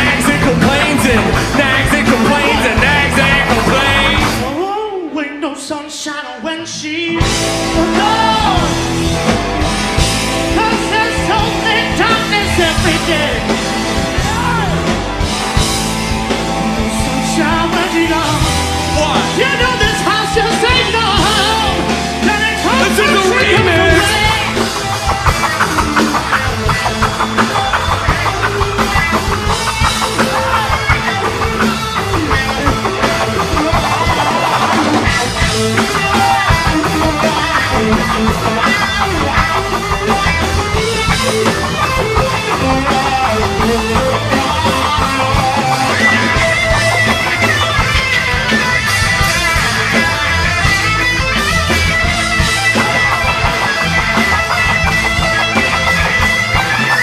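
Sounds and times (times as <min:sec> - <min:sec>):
drum kit: 0:00.0 - 0:04.9, 0:07.0 - 0:57.0
electric guitar: 0:00.0 - 0:05.2, 0:06.6 - 0:57.0.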